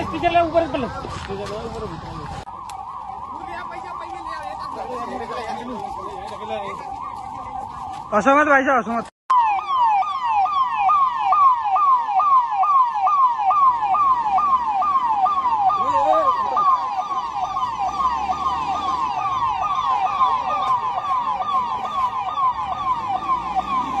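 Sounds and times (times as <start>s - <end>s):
emergency siren yelping: 0.0s - 24.0s.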